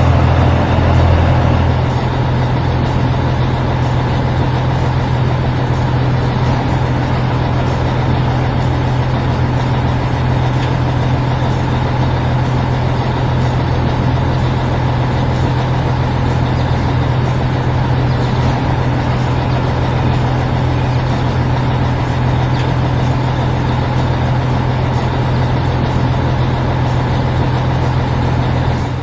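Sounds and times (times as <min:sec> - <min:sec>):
heavy vehicle engine humming: 0:00.0 - 0:29.0.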